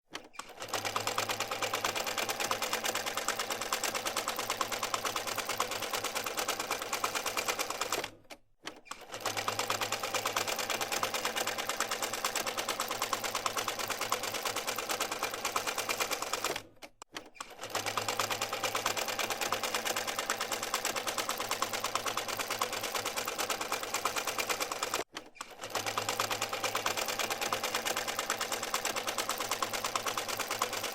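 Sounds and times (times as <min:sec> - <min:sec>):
treadle sewing machine clattering: 0:00.2 - 0:08.2, 0:08.8 - 0:30.9.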